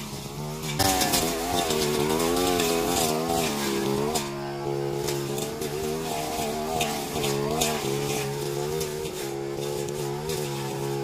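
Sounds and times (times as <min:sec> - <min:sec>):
blade cutting leafy bush: 0:00.0 - 0:11.0
brush cutter engine revving: 0:00.0 - 0:11.0.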